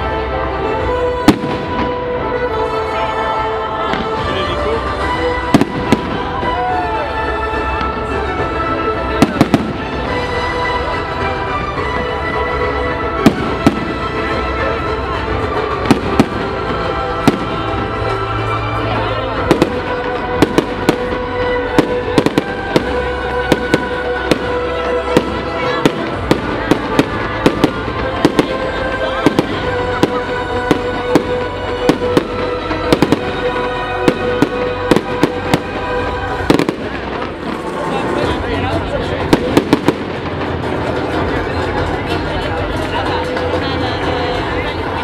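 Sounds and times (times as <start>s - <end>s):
background music: 0.0s - 45.0s
fireworks bangs: 1.2s - 2.6s, 3.9s - 6.9s, 9.1s - 11.0s, 11.8s - 18.2s, 18.8s - 42.2s.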